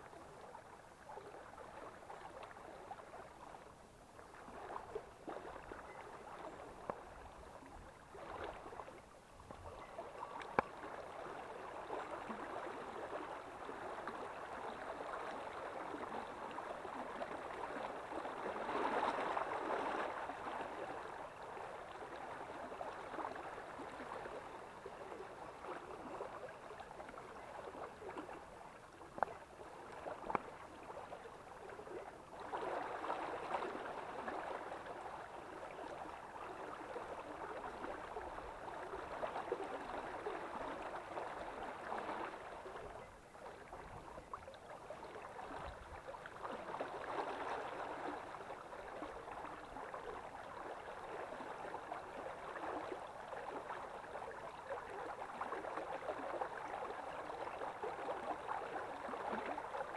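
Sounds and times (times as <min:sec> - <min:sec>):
stream running and sloshing: 0:00.0 - 0:59.9.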